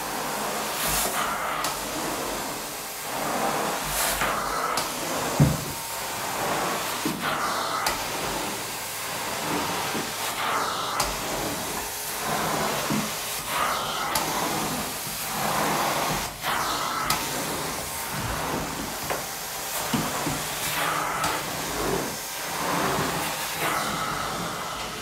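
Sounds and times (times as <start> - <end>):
carpet cleaning wand hissing suction: 0.0 - 25.0.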